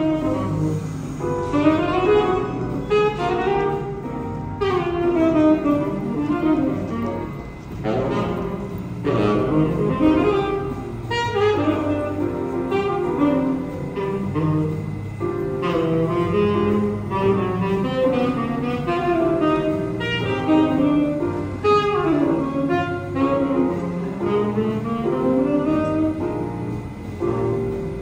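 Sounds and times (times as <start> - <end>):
saxophone playing jazz melody: 0.0 - 28.0.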